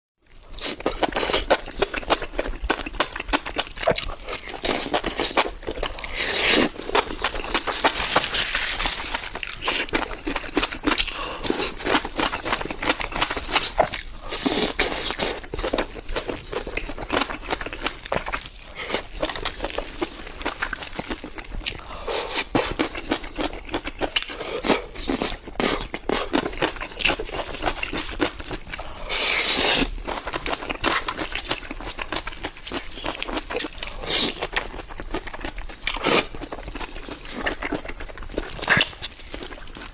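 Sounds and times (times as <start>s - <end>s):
crunchy wet chewing: 0.3s - 39.9s.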